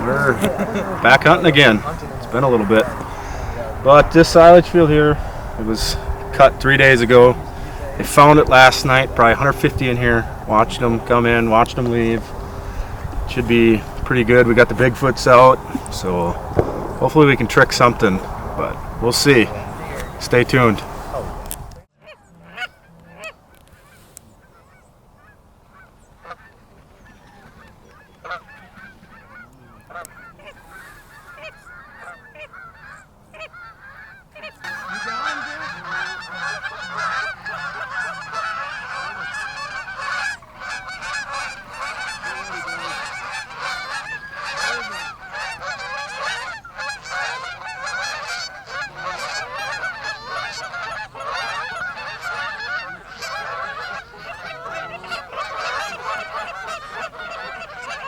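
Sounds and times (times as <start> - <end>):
geese honking: 0.0 - 58.0.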